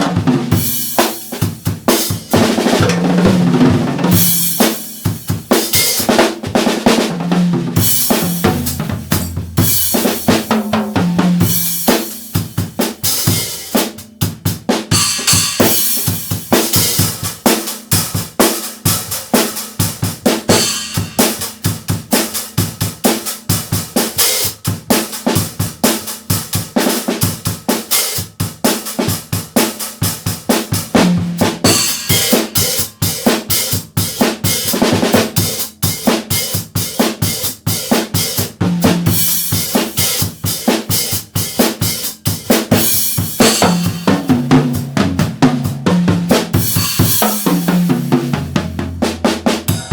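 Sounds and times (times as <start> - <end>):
drum kit playing: 0.0 - 49.9.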